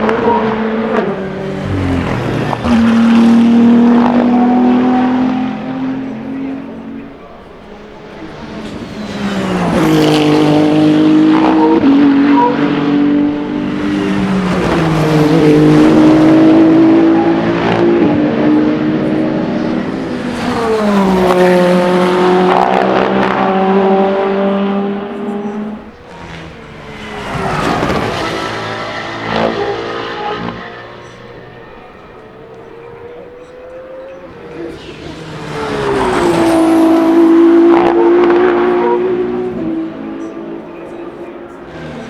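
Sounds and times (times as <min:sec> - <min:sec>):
race cars passing at speed: 0:00.0 - 0:42.0.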